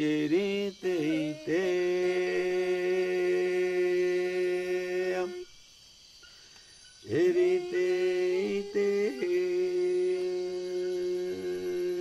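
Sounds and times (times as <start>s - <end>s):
solo voice chanting: 0.0s - 5.5s, 7.1s - 12.0s.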